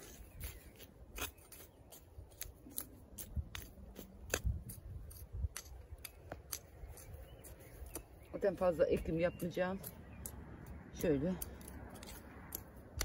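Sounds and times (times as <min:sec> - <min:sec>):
hoe chopping through soil: 0:00.0 - 0:13.0.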